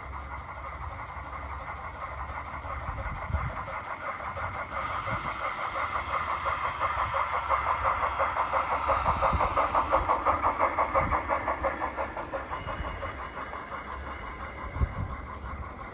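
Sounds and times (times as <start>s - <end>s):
hiss: 0.0s - 15.9s
model steam engine chuffs: 0.0s - 15.9s
model wheels rumbling on track: 0.8s - 15.9s.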